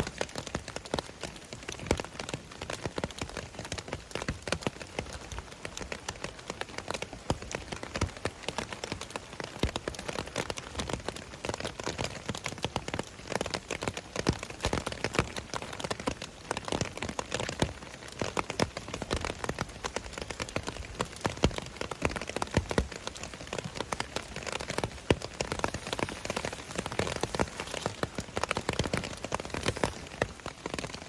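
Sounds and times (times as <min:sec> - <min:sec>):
rain hiss: 0:00.0 - 0:31.0
raindrops tapping on surface: 0:00.0 - 0:31.0.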